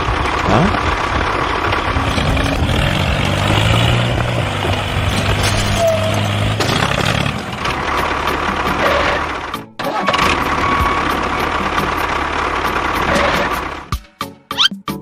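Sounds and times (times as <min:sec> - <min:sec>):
vehicle engine humming: 0:00.0 - 0:14.7.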